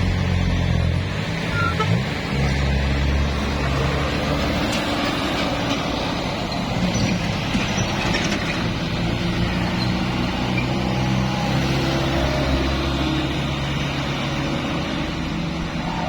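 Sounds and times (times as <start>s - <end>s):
bus engine passing: 0.0s - 16.0s.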